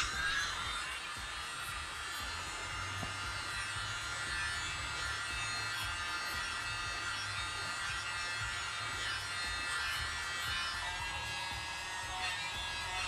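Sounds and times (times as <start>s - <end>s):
small air blower motor whine: 0.0s - 13.0s.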